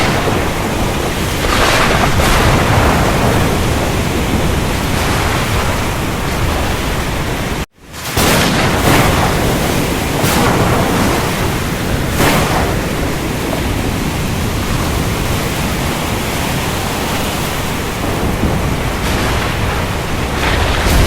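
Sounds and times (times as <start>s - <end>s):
surf rushing: 0.0s - 21.0s
wave crash: 0.0s - 21.0s
wind: 0.0s - 21.0s.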